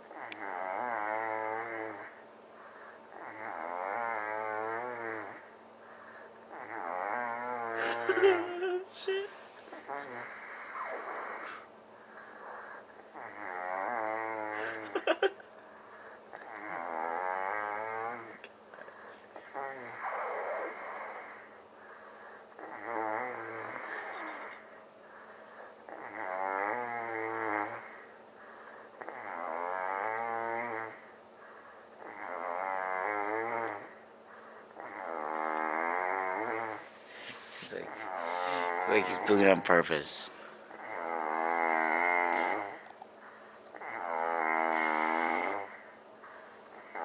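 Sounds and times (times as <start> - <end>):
man snoring: 0.0 - 11.7, 12.3 - 24.7, 25.6 - 31.2, 31.8 - 43.0, 43.7 - 47.0.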